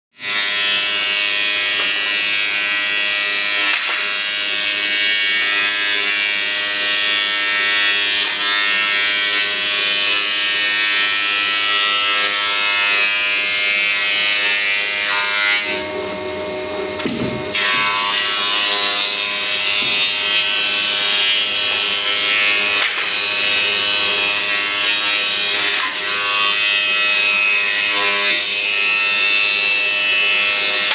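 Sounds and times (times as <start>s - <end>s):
cutterhead planing wood: 0.2s - 30.9s
planer whining: 0.2s - 30.9s.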